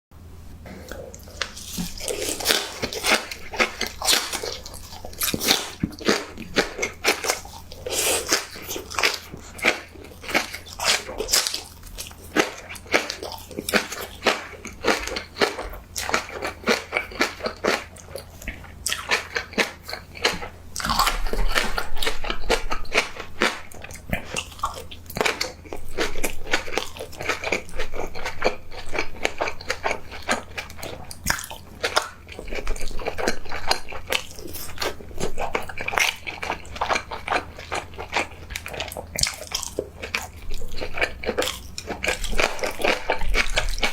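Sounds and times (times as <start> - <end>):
chewing crunchy food: 0.6 - 43.9
wet mouth sounds: 0.7 - 43.9.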